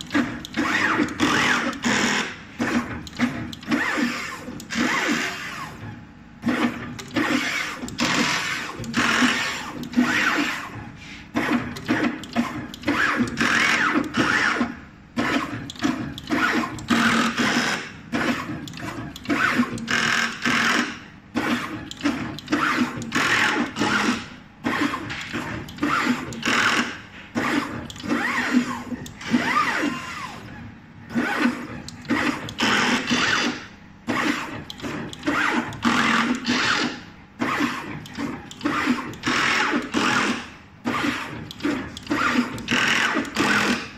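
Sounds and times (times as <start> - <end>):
machine motors whirring in bursts: 0.0 - 43.9.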